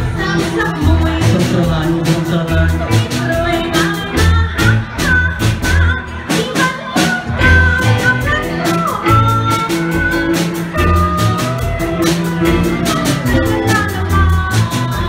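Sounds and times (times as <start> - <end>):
live pop band playing: 0.0 - 15.0
woman singing: 0.0 - 15.0.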